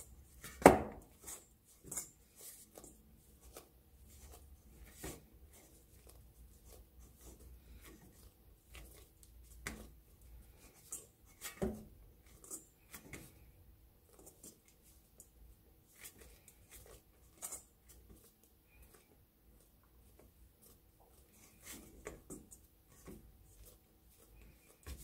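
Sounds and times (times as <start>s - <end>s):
hand kneading bread dough: 0.0s - 25.0s.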